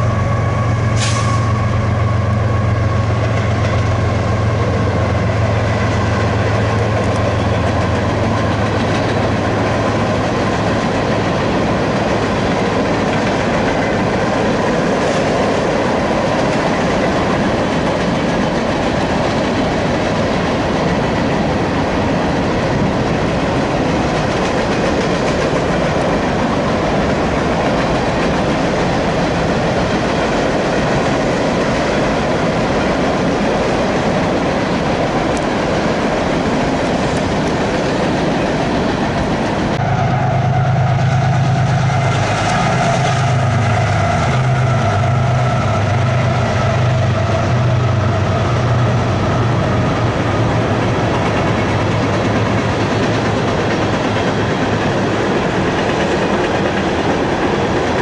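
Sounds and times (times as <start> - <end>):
steel wheels on rails: 0.0 - 58.0.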